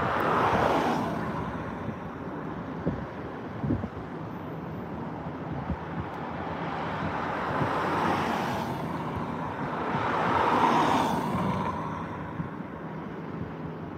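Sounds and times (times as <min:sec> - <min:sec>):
cars passing close: 0:00.0 - 0:13.9.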